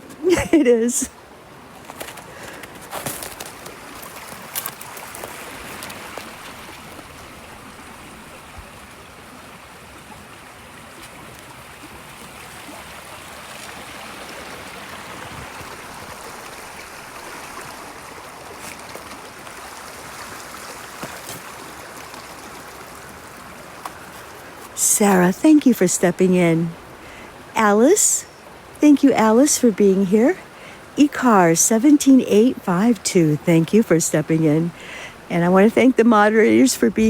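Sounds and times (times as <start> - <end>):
river water flowing: 0.0 - 37.0.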